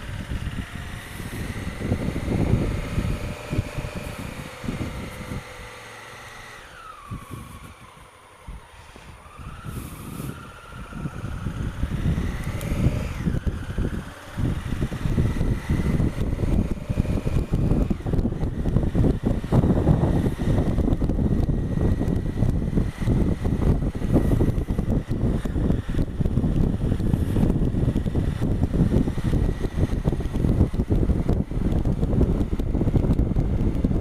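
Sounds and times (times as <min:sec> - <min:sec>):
motorcycle engine: 0:00.0 - 0:34.0
wind buffeting microphone: 0:00.0 - 0:34.0.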